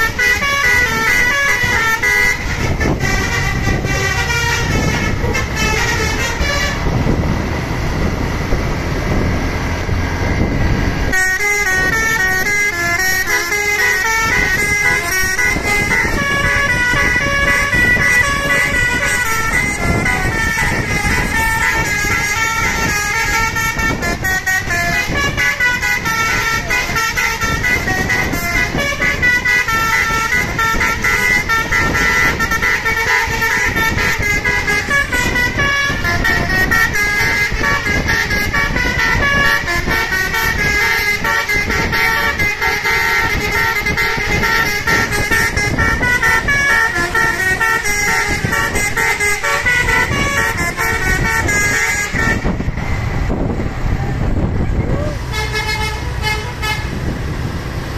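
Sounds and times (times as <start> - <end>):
bus horn playing a melody: 0.0 - 53.6, 54.2 - 57.1.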